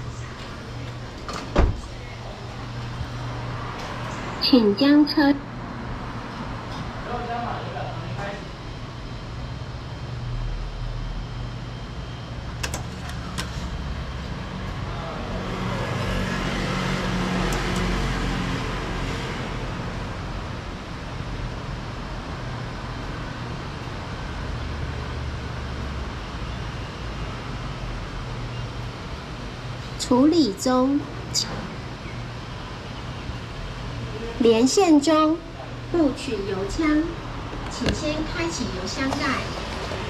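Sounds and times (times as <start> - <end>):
traffic noise: 0.0 - 40.0.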